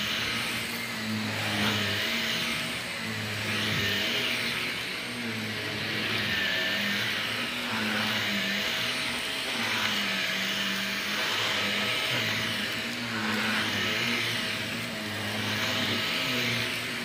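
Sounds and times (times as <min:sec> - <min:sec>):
stick vacuum running on carpet: 0:00.0 - 0:17.0.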